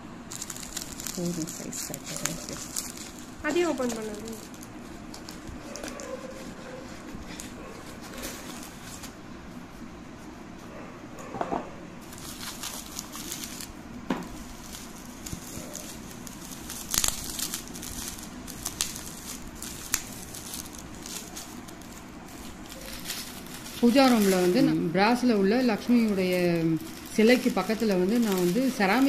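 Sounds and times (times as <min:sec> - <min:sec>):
bubble wrap and paper crinkling: 0:00.0 - 0:09.9, 0:12.0 - 0:29.0.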